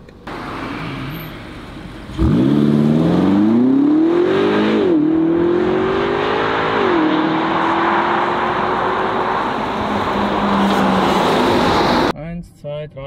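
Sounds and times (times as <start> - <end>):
car engine accelerating: 0.3 - 12.1.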